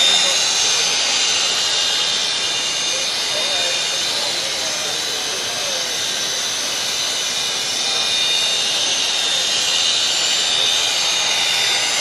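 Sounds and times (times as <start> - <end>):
abrasive belt hissing on metal: 0.0 - 12.0
belt sander whining: 0.0 - 12.0.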